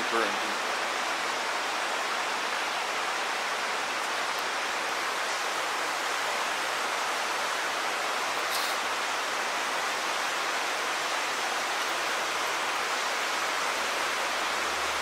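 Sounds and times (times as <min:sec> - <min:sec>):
floodwater rushing through tunnel: 0:00.0 - 0:15.0.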